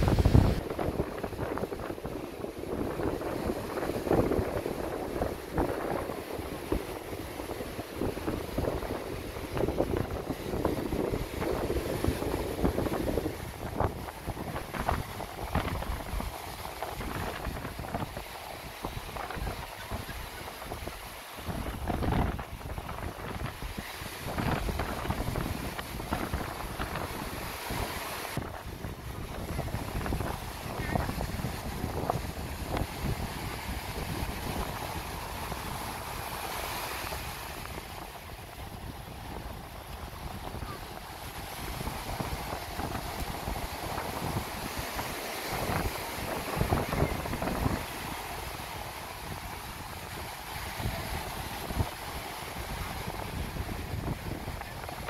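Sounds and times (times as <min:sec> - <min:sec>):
surf washing: 0:00.0 - 0:55.0
wind buffeting microphone: 0:00.0 - 0:55.0.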